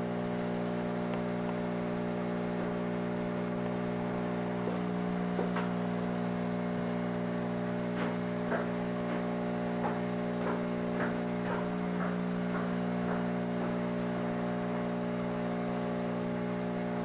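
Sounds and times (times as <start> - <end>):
aquarium equipment hum: 0.0 - 17.0.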